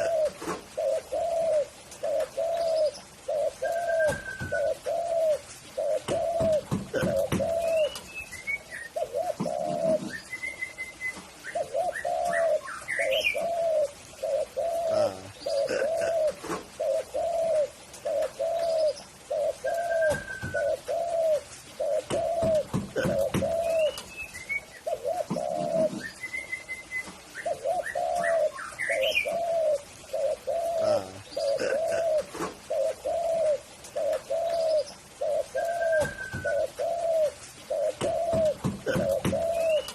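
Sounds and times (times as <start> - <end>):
dove cooing: 0.0 - 39.9
small birds chirping and whistling: 0.0 - 39.9.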